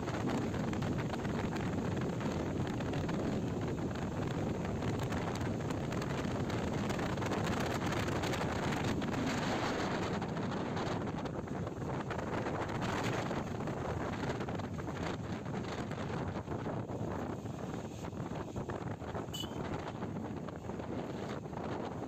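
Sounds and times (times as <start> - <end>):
motorcycle road and running noise: 0.0 - 22.0
wind rushing over microphone: 0.0 - 22.0.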